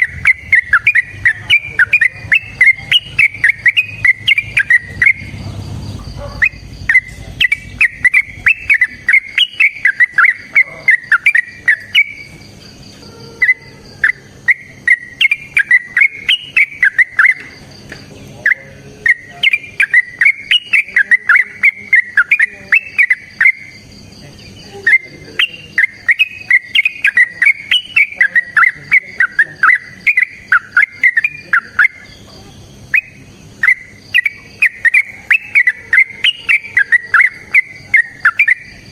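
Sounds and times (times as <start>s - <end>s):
bulbul singing bubbling phrases: 0.0s - 38.9s.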